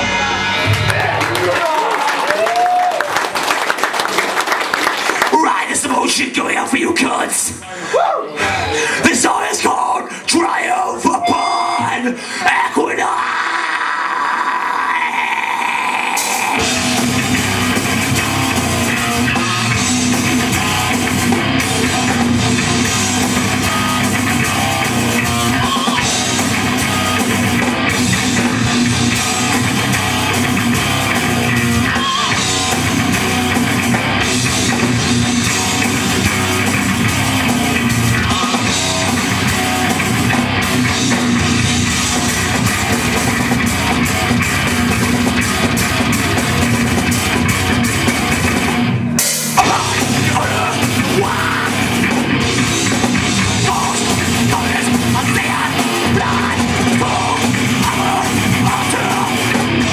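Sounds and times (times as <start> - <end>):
death metal band playing: 0.0 - 1.7, 8.8 - 59.9.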